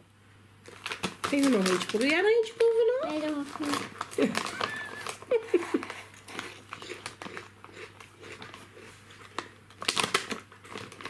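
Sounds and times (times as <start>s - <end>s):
foil bag crinkling: 0.6s - 11.0s
potato chips crunched and chewed: 0.6s - 11.0s.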